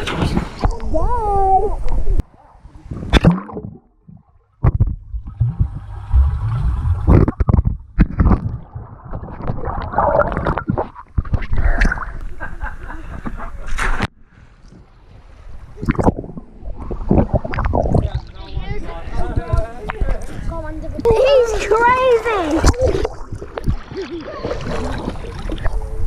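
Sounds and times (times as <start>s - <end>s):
water buffeting microphone: 0.0s - 26.0s
water sloshing and splashing: 2.2s - 12.4s, 13.7s - 26.0s.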